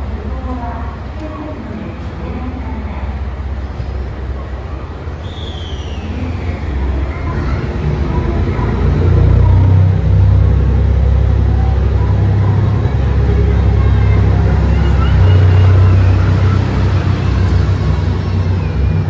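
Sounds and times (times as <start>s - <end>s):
diesel train engine rumble: 0.0s - 19.0s.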